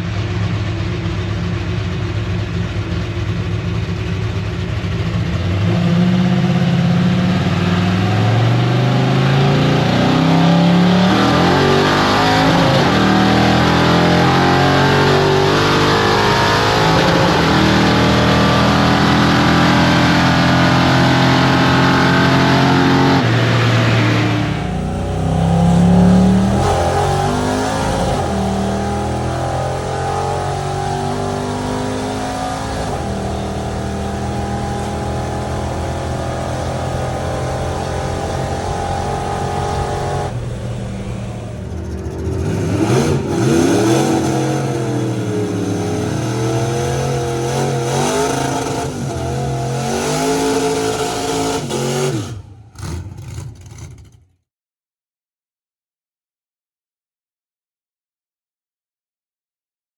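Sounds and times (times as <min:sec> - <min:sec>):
vehicle engine revving: 0:00.0 - 0:54.3.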